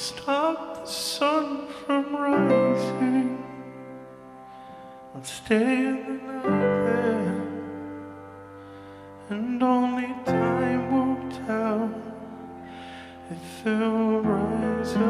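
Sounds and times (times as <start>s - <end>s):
man singing: 0.0s - 3.9s, 5.1s - 7.9s, 9.2s - 15.0s
piano chords: 0.0s - 15.0s.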